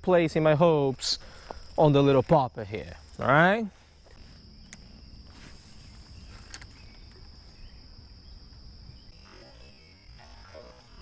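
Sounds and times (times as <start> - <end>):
high-pitched insect drone: 1.1 - 11.0.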